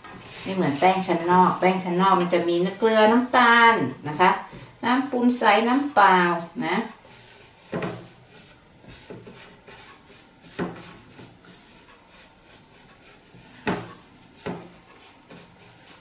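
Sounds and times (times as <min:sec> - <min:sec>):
spatula scraping metal bowl: 0:00.0 - 0:16.0.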